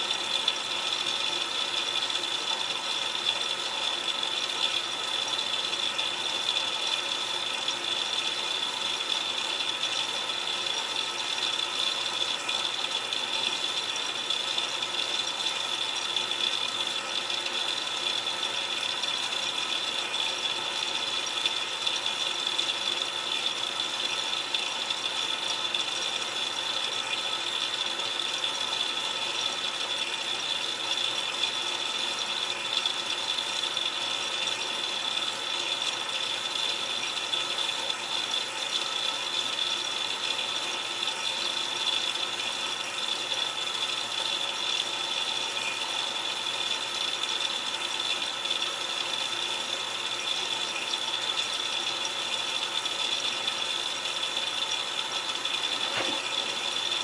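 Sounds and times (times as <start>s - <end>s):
water splashing in washing machine: 0.0s - 57.0s.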